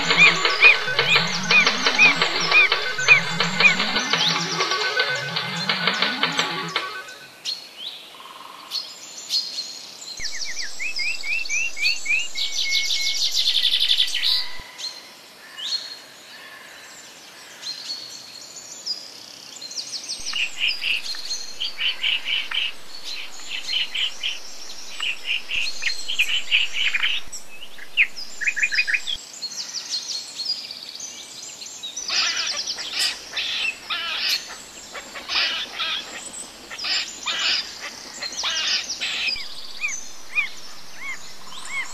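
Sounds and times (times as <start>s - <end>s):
songbirds chirping and trilling: 0.0s - 7.2s, 9.2s - 15.0s, 19.3s - 29.8s, 30.5s - 41.9s.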